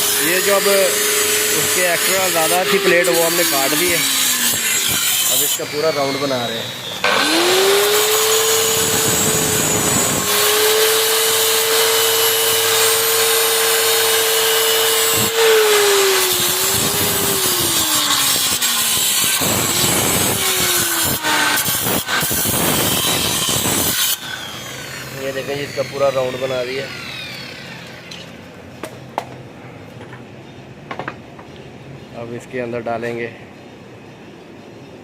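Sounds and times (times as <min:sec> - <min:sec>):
angle grinder grinding steel: 0:00.0 - 0:28.4.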